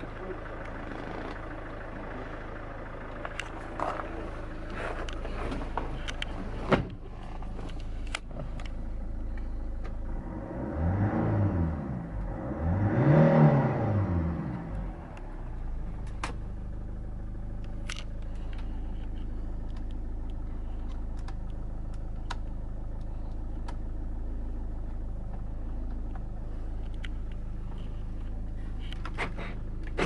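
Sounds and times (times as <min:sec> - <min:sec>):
suv engine idling and revving: 0:00.0 - 0:30.0.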